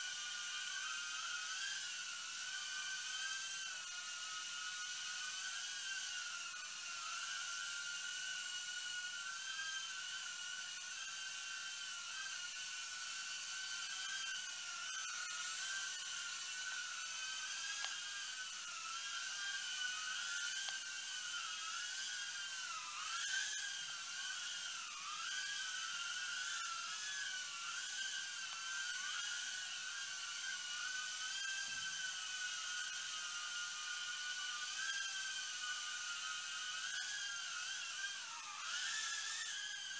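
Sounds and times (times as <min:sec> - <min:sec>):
mini quadcopter whining: 0:00.0 - 0:39.9.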